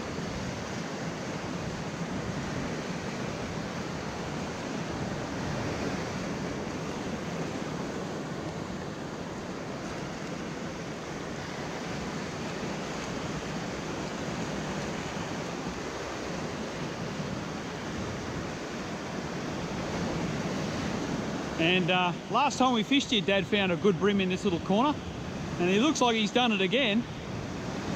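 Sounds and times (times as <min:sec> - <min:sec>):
waves breaking over rocks: 0:00.0 - 0:27.9
wind: 0:00.0 - 0:27.9.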